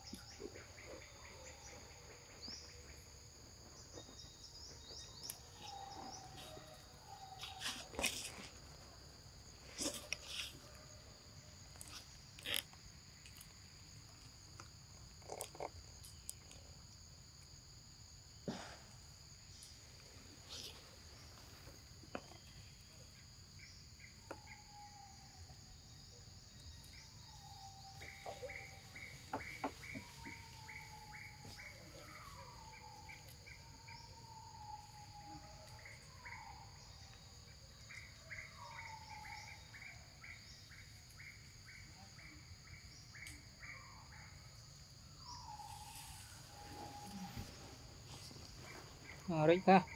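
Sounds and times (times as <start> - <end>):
insects buzzing: 0.0 - 49.9.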